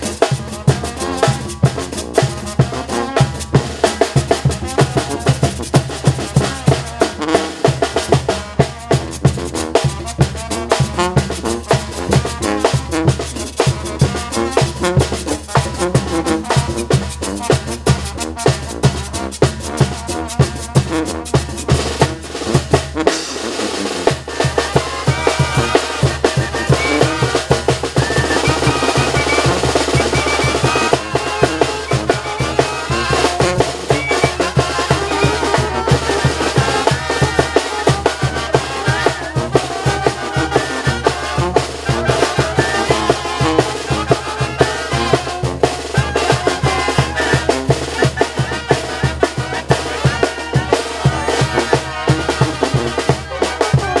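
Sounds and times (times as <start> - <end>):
bass drum and snare beat: 0.0 - 54.0
brass band horn melodies: 0.0 - 54.0.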